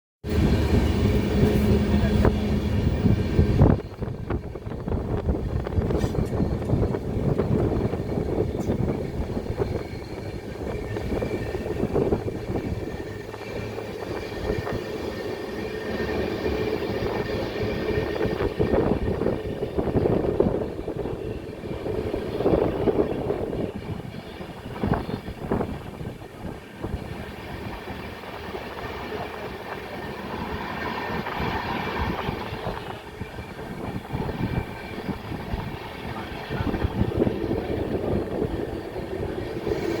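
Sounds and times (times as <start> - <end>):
train wheels clattering on rails: 0.3 - 40.0.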